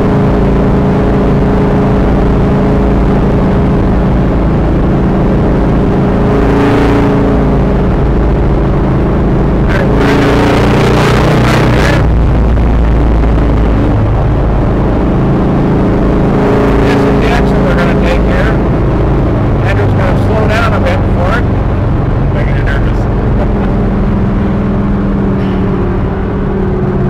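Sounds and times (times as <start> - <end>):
car engine cruising: 0.0 - 27.0
road noise: 0.0 - 27.0.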